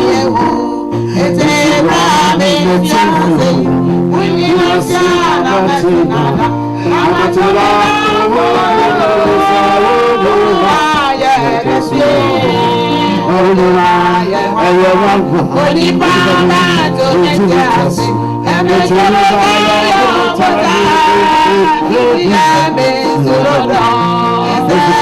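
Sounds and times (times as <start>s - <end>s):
instrumental accompaniment with bass: 0.0s - 25.0s
person singing gospel: 0.0s - 25.0s.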